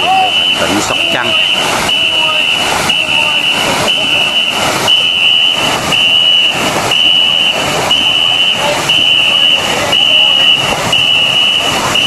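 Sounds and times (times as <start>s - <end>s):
paddles striking water: 0.0s - 12.0s
shrill steady signal tone: 0.0s - 12.0s.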